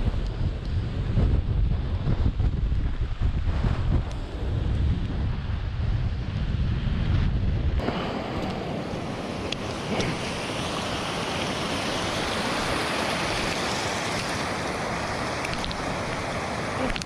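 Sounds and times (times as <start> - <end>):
wind and rain hiss: 0.0 - 17.0.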